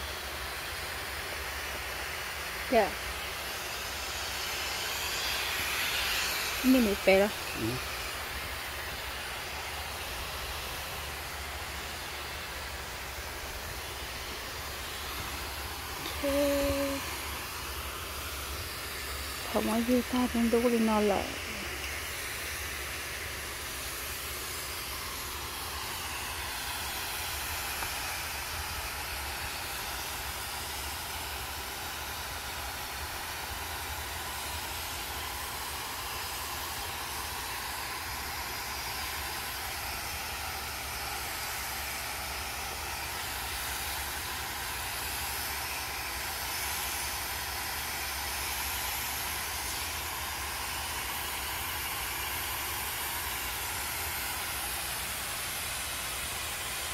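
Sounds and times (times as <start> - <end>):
steady hissing noise: 0.0 - 56.9.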